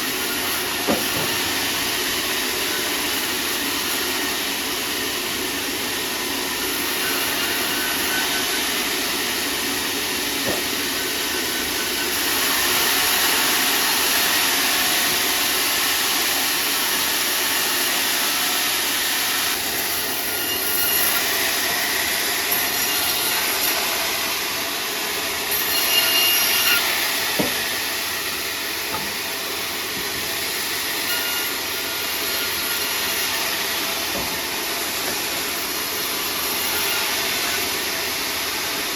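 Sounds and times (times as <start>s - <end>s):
sawmill saw cutting wood: 0.0s - 38.9s.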